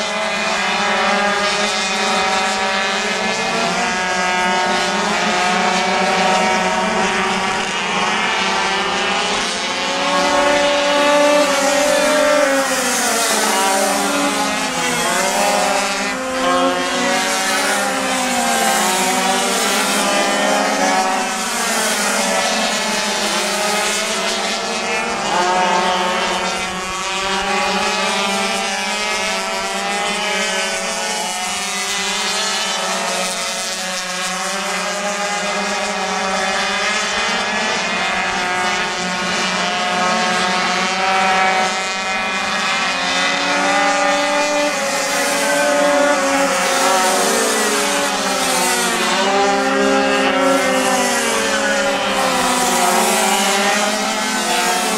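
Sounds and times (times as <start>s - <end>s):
small two-stroke engines buzzing: 0.0s - 54.9s.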